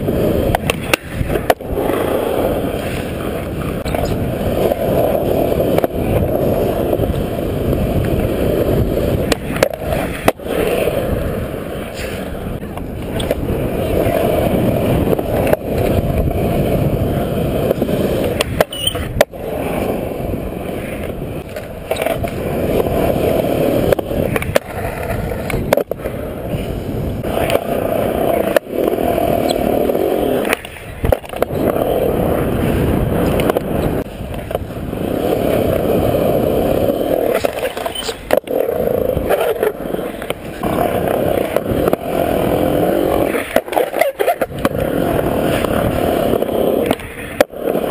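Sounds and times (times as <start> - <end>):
skateboard clacks: 0.0 - 47.9
skateboard wheels rolling on concrete: 0.0 - 47.9.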